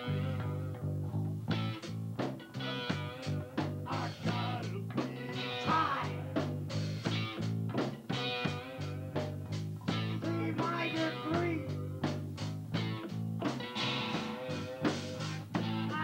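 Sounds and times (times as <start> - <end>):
bass guitar: 0.0 - 16.0
drums keeping a steady beat: 0.0 - 16.0
electric guitar: 0.0 - 16.0.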